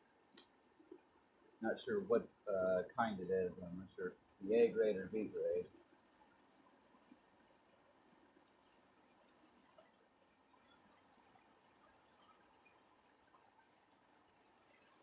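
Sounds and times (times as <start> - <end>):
crickets trilling: 1.6 - 15.0.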